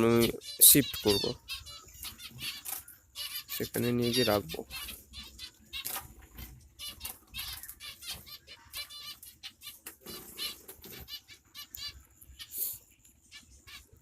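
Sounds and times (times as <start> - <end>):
finches chirping: 0.0 - 14.0.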